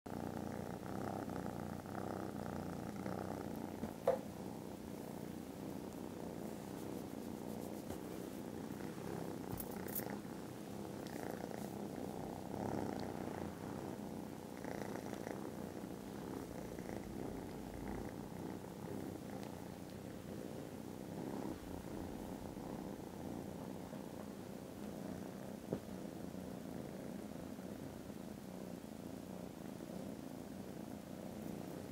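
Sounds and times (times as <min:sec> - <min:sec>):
kitten purring: 0:00.1 - 0:31.9.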